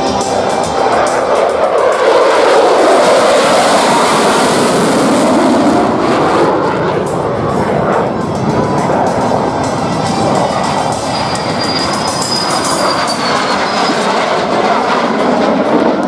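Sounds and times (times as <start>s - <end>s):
jet engine roaring overhead: 0.0s - 16.0s.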